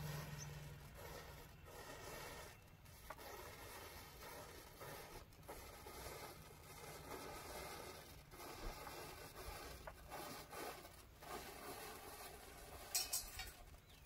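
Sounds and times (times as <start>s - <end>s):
matchsticks burning with rasp: 0.0s - 14.0s.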